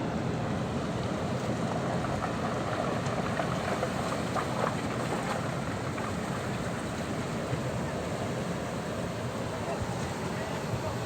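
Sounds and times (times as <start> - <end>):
sea waves washing on shore: 0.0 - 11.0.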